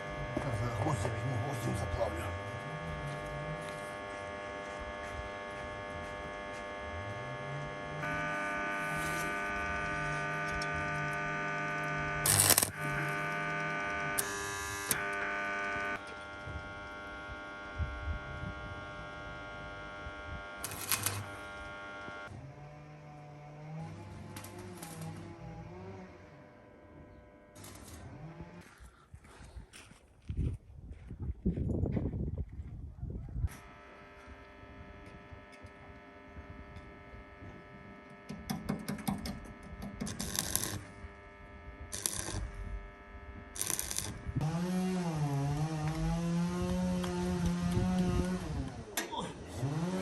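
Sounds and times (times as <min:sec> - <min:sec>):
electric buzzing hum: 0:00.0 - 0:28.8, 0:33.4 - 0:50.0.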